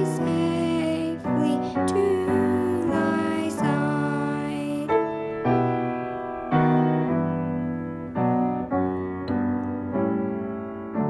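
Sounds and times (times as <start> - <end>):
solo piano hymn chords: 0.0 - 11.0.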